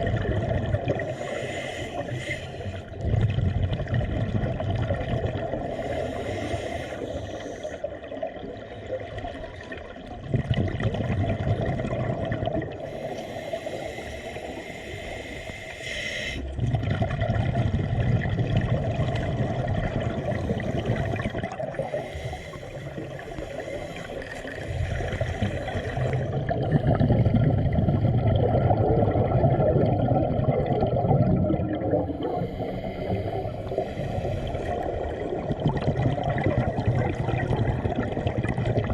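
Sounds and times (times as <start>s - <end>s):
water gurgling and bubbling: 0.0s - 14.7s, 16.4s - 38.9s.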